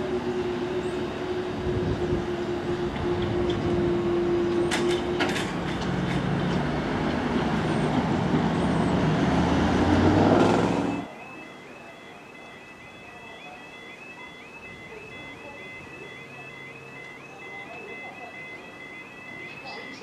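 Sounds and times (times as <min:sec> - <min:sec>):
car engines: 0:00.0 - 0:20.0
electric train humming: 0:00.0 - 0:20.0.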